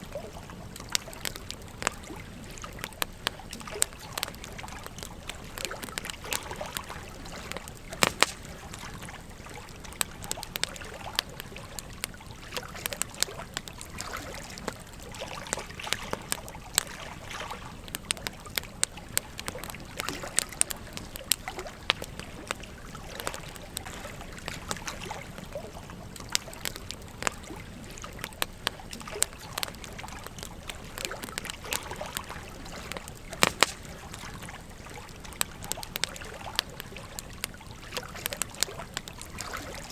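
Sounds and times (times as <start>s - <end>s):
campfire crackling and popping: 0.0s - 39.9s
gentle stream trickling: 0.0s - 39.9s.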